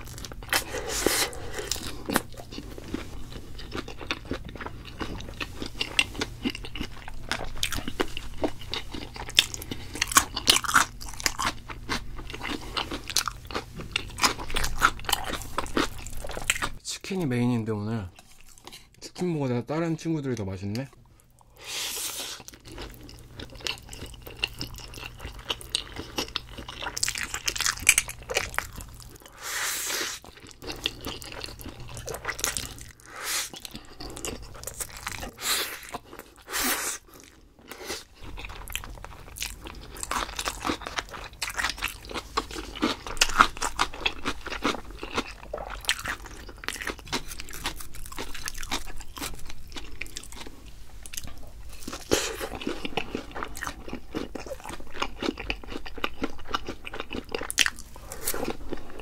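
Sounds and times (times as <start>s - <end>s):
person crunching crispy food: 0.0s - 16.8s, 21.9s - 59.0s.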